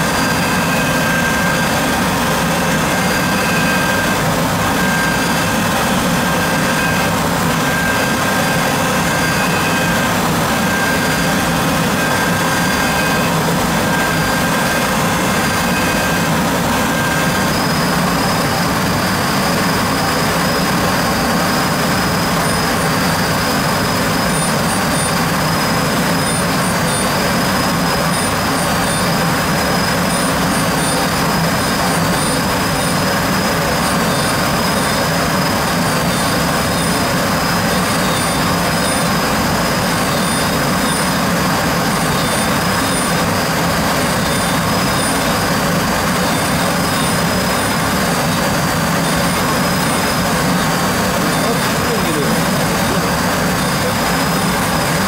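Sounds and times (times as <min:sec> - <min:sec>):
machine spindle whine: 0:00.0 - 0:55.0.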